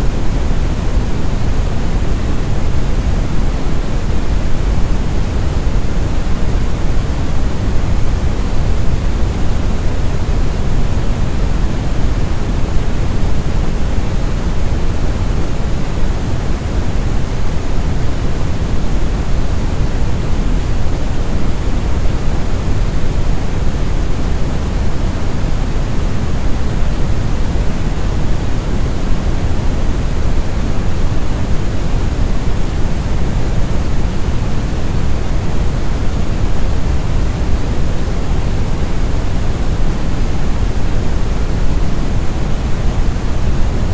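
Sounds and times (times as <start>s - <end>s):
brown noise: 0.0s - 43.9s.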